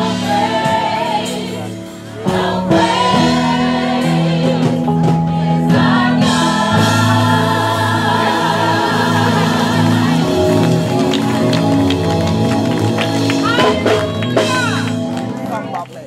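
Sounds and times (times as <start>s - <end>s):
gospel choir singing: 0.0s - 13.3s.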